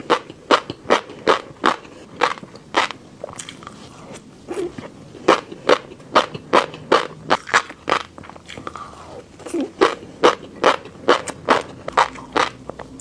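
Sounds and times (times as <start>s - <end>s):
chewing crunchy fish roe: 0.0s - 13.0s.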